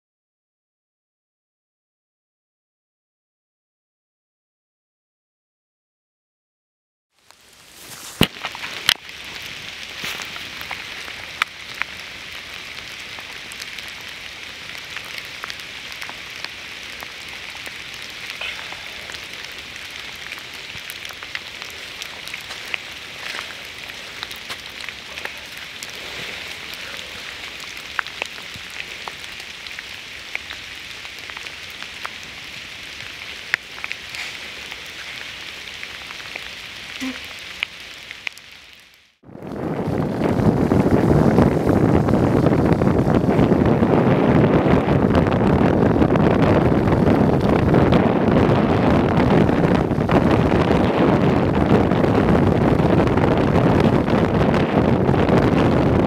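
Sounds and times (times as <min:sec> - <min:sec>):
steady outdoor hiss: 0:07.2 - 0:56.0.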